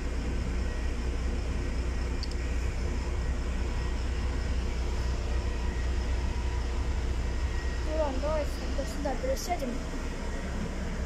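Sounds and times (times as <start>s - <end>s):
bus engine idling hum: 0.0s - 11.0s.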